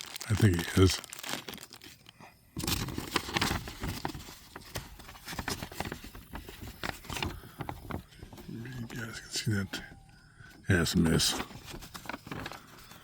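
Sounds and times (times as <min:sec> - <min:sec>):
paper card rustling and crinkling: 0:00.0 - 0:10.0, 0:10.7 - 0:13.0.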